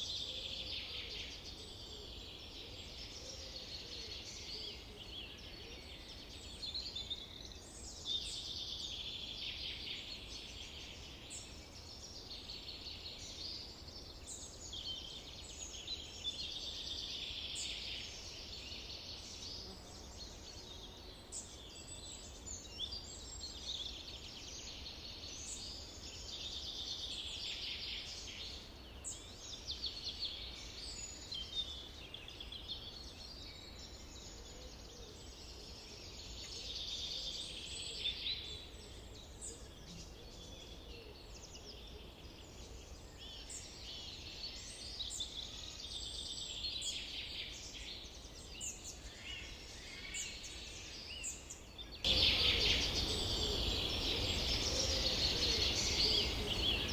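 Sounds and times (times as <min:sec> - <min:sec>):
songbirds chorus: 0:00.0 - 0:56.9.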